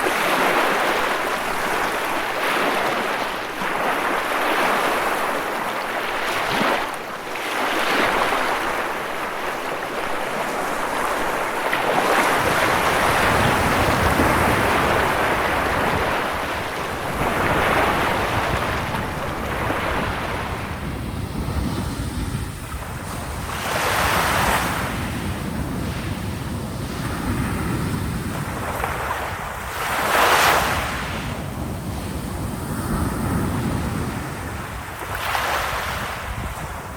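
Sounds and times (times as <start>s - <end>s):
waves breaking: 0.0s - 36.9s.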